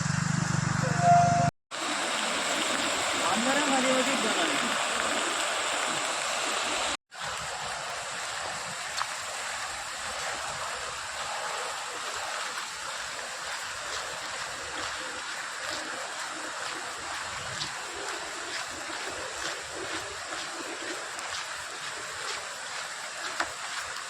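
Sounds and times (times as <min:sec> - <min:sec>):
floodwater rushing: 0:01.7 - 0:24.0.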